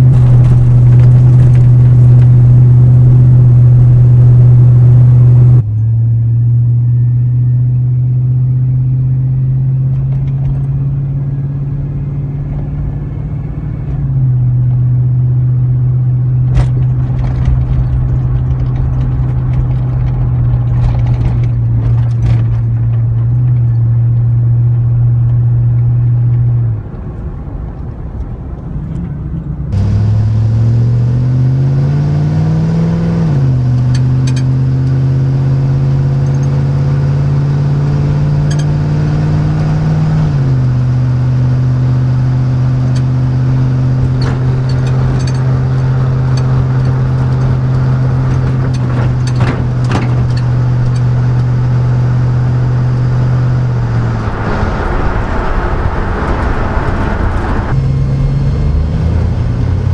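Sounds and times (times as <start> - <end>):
engine revving: 0.0 - 26.9, 29.7 - 59.9
exhaust drone inside cab: 0.0 - 59.9.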